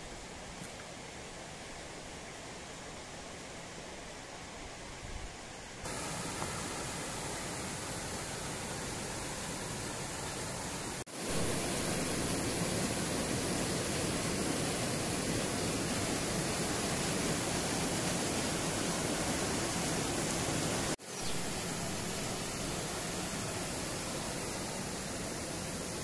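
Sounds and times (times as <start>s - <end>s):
stream rushing over rocks: 0.2s - 26.0s.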